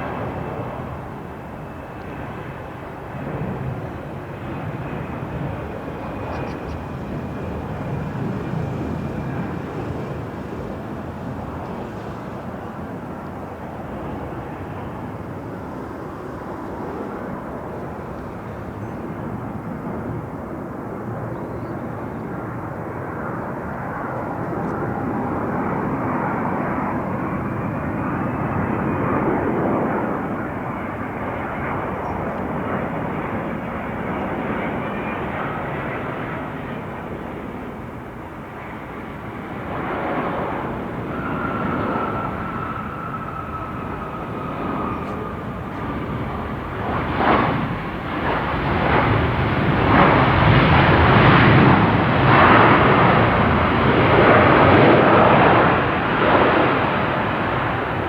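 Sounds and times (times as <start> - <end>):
jet airliner passing: 0.0 - 58.0.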